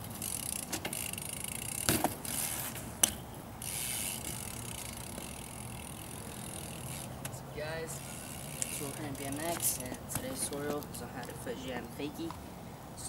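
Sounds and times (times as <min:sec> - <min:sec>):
bike hub ratchet clicking: 0:00.1 - 0:10.8.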